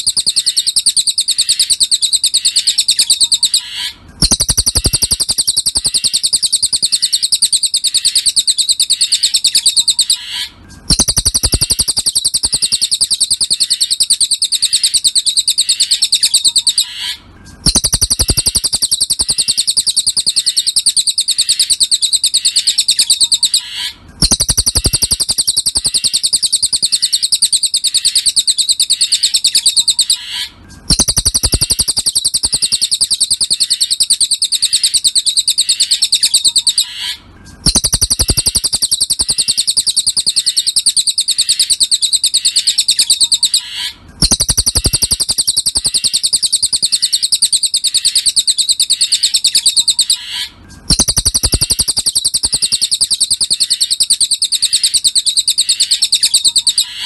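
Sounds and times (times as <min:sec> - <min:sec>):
bird trilling: 0:00.0 - 0:57.0.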